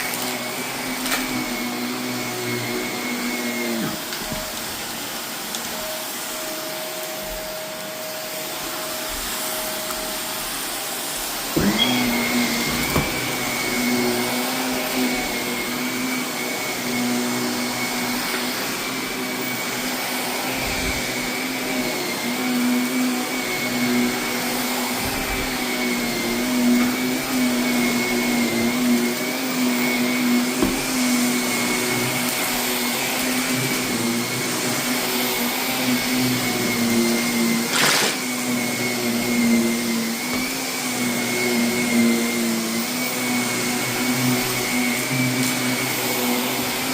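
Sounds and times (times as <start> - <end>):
vacuum cleaner whining on carpet: 0.0 - 46.9.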